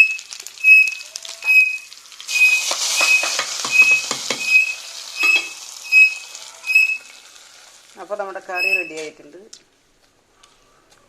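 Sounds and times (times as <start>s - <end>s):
food sizzling in hot oil: 0.0s - 9.1s.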